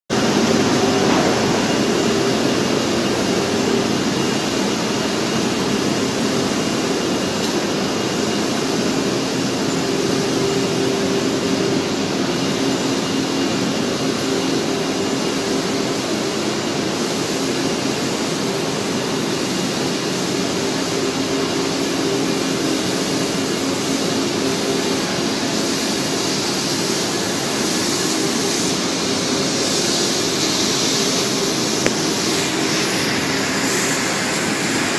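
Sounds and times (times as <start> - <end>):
machinery rushing noise: 0.1 - 34.9
steady hum: 0.1 - 34.9.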